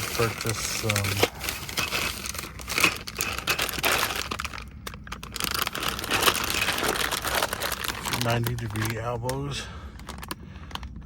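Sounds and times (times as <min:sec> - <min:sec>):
crinkling rustling handling noise: 0:00.0 - 0:11.0.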